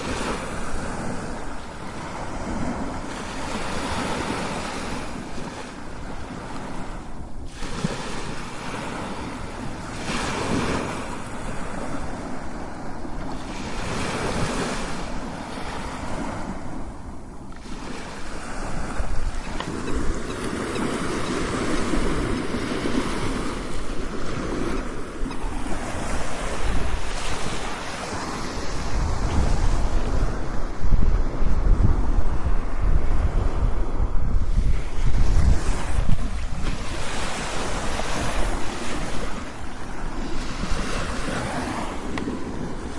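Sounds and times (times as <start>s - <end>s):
ocean waves crashing: 0.0s - 42.9s.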